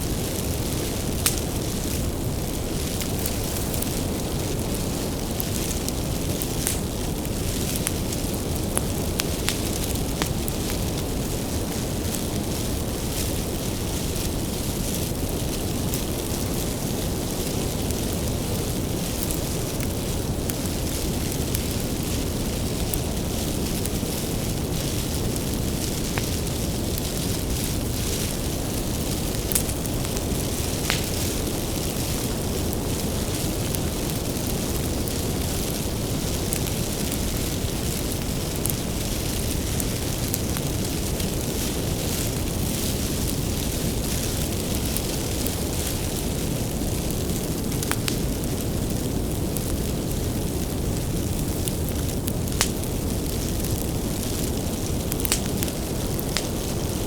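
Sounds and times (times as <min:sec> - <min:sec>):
bonfire flames rumbling and hissing: 0:00.0 - 0:57.0
wood crackling and popping: 0:00.0 - 0:57.0.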